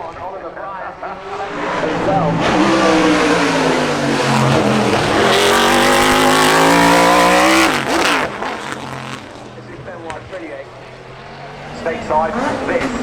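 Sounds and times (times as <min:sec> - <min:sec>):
race car engine accelerating: 0:00.9 - 0:13.0.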